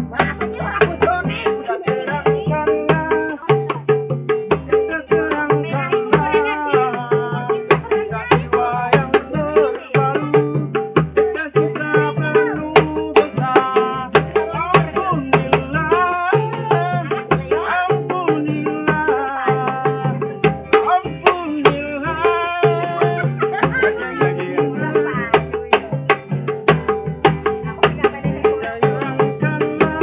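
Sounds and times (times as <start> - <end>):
acoustic guitar strumming: 0.0 - 30.0
hand drum slaps and thumps: 0.0 - 30.0
man singing: 0.0 - 30.0.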